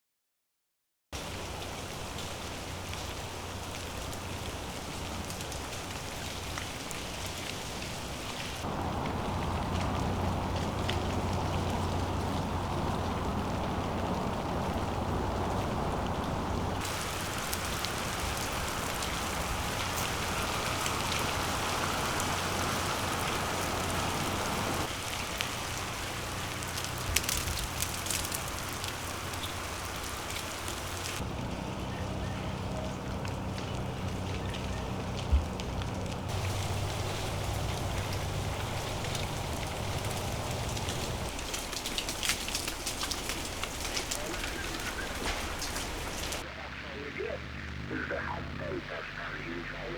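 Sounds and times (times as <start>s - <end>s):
freezing rain falling: 1.2s - 49.9s.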